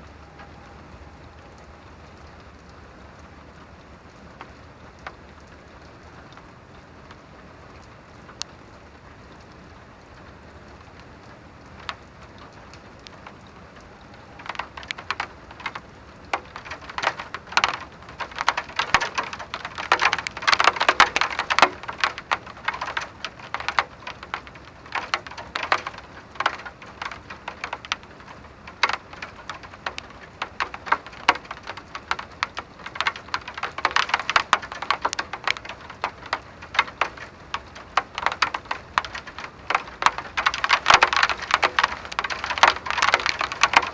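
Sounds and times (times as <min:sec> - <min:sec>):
rain hiss: 0:00.0 - 0:43.9
raindrops tapping on hard surface: 0:00.0 - 0:43.9.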